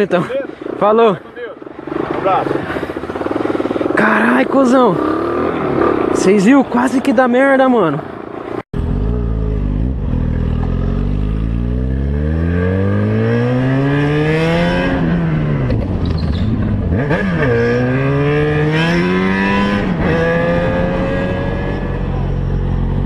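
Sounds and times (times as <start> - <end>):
motorcycle engine accelerating: 1.0 - 23.0.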